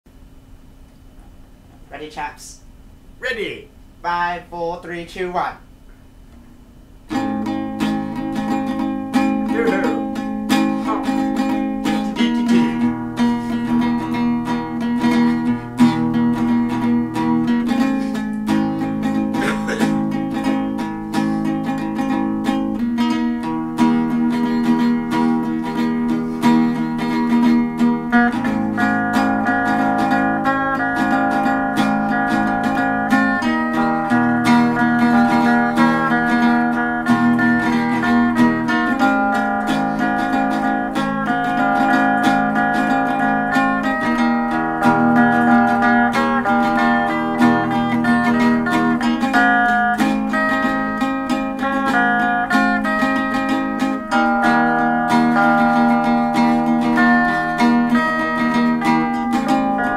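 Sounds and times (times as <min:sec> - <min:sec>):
acoustic guitar strumming: 0:07.0 - 0:59.9.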